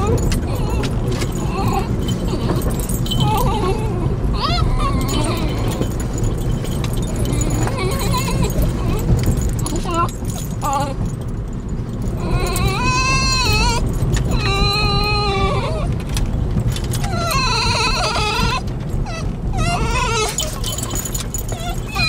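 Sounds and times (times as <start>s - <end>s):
dog yelps: 0.0s - 11.1s, 12.1s - 16.2s, 16.8s - 22.0s
car rumbling: 0.0s - 22.0s
dogs whining high-pitched: 0.0s - 22.0s.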